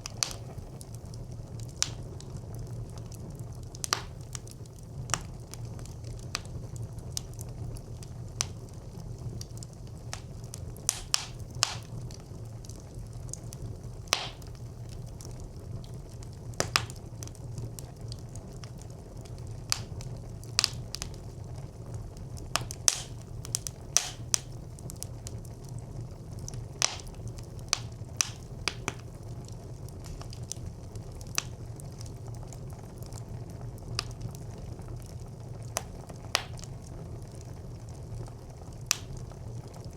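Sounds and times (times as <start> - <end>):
burning wood crackling and popping: 0.0 - 39.9
rumble of flames: 0.0 - 39.9.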